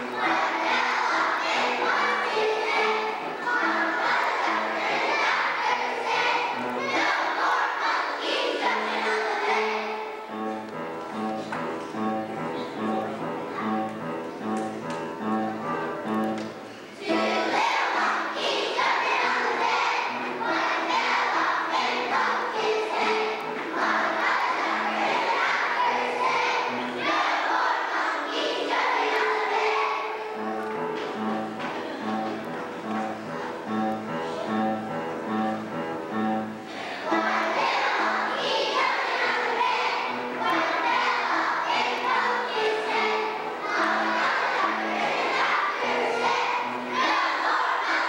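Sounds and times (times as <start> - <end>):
children singing: 0.0 - 14.6, 15.2 - 48.0
instrumental accompaniment: 0.0 - 48.0.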